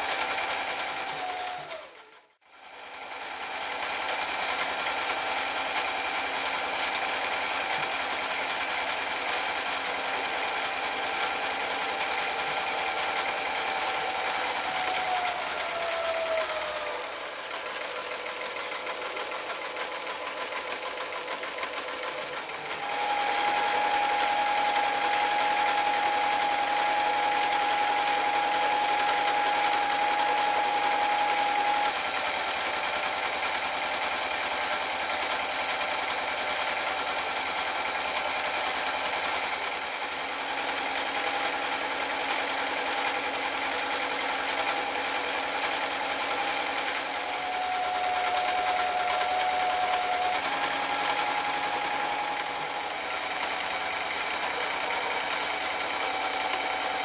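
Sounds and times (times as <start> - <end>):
sewing machine stitching: 0.0 - 57.0.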